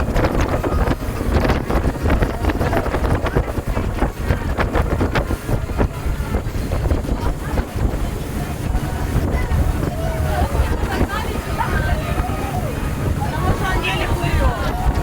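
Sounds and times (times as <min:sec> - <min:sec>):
boat engine rumble: 0:00.0 - 0:15.0
rushing water: 0:00.0 - 0:15.0
wind buffeting microphone: 0:00.0 - 0:15.0.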